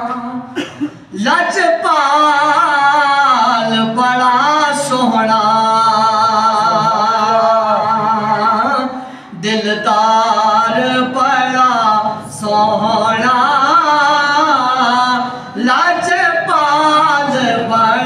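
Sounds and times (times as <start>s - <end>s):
man chanting unaccompanied: 1.1s - 18.0s.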